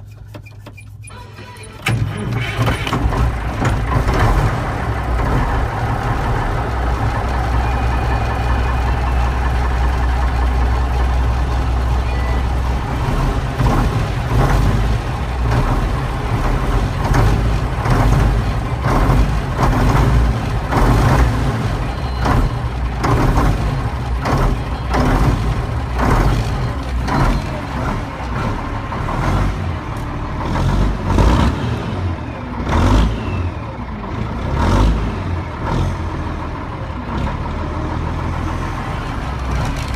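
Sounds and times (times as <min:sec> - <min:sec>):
diesel truck engine revving: 0:01.4 - 0:39.9.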